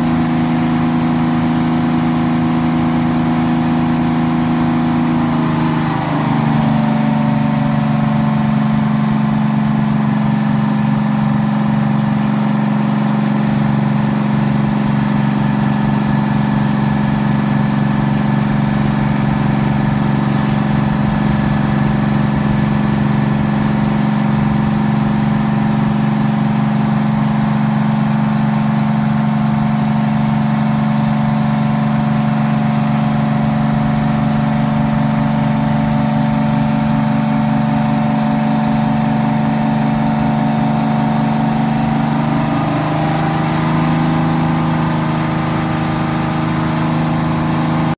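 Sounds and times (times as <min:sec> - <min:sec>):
truck crane engine running: 0:00.0 - 0:47.9.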